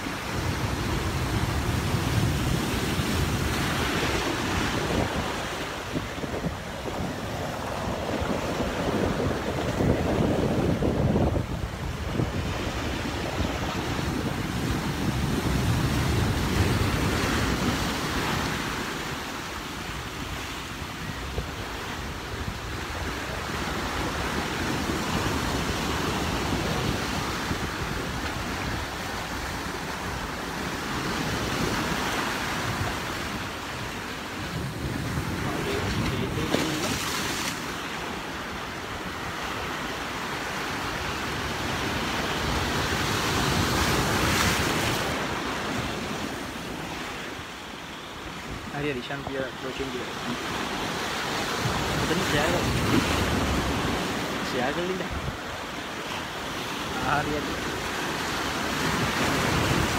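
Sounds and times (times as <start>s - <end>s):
sea waves breaking on rocks: 0.0s - 20.8s, 21.4s - 59.9s
wind on microphone: 0.0s - 47.2s, 50.3s - 59.9s.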